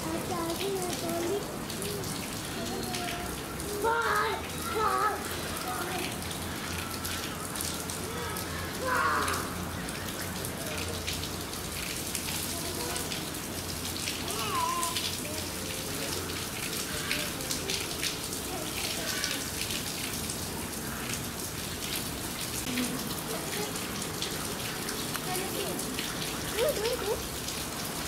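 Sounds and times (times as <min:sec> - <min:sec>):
water stream splashing into pool: 0:00.0 - 0:28.0.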